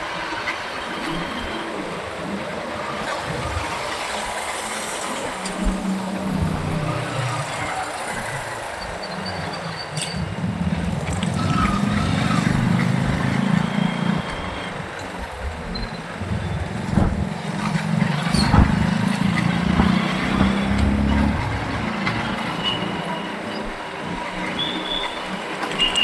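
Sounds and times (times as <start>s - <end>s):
road and wind noise: 0.0s - 26.0s
motorcycle engine hum: 0.9s - 25.7s.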